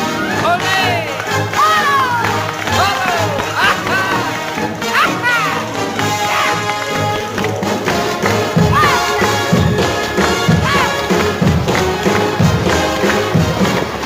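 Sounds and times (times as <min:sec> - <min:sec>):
orchestral show tune: 0:00.0 - 0:14.0
tap dance taps and thuds: 0:01.6 - 0:14.0.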